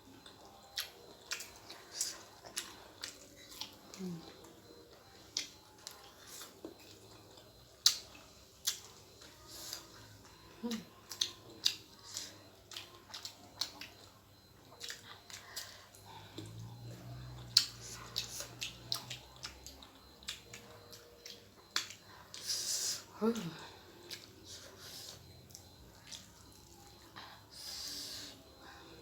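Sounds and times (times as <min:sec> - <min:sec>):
person chewing noodles: 0:00.0 - 0:29.0.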